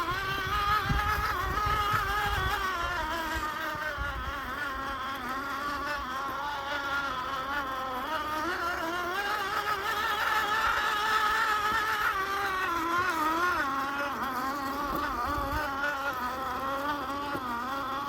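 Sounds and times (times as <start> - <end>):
rc car electric motor whining: 0.0 - 18.0.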